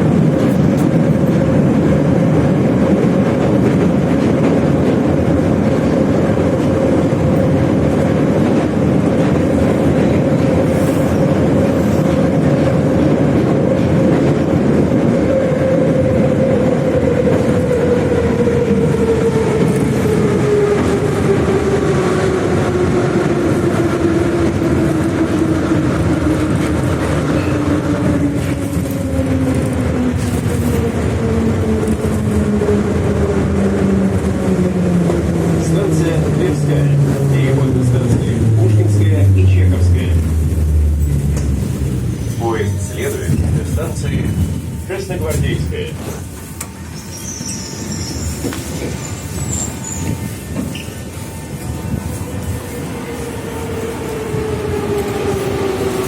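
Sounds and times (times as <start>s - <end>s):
subway train wheels rumbling: 0.0s - 56.0s.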